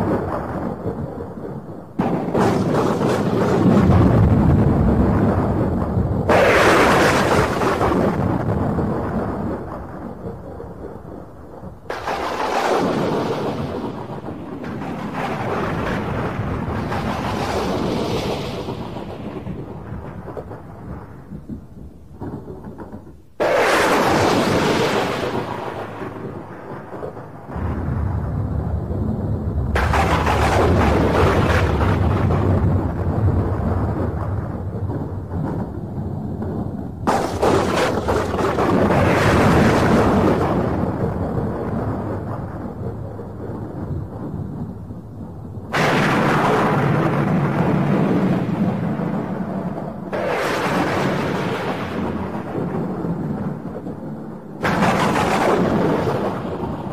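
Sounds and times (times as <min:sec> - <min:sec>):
thunder clap rumbling: 0:00.0 - 0:56.9
sudden crackling crash: 0:02.0 - 0:10.5, 0:11.7 - 0:56.9.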